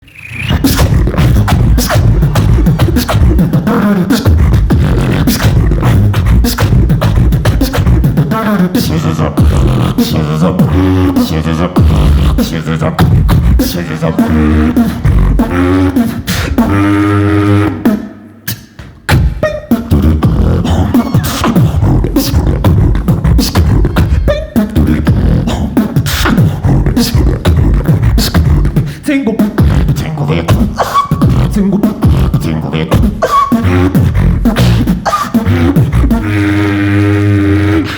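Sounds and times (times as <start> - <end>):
beatbox drum sounds: 0.0 - 37.9
pitched vocal lines: 0.0 - 37.9
vocal bass line: 0.0 - 37.9.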